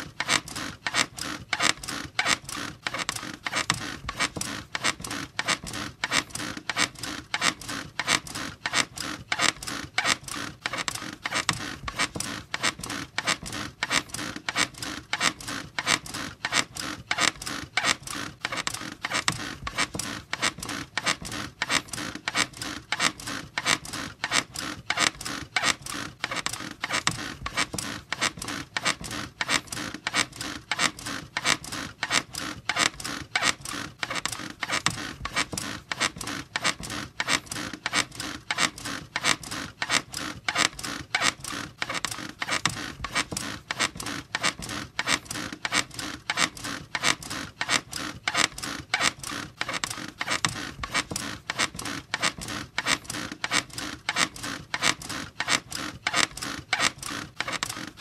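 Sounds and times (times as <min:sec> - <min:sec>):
bed squeaking rhythmically: 0:00.0 - 0:58.0.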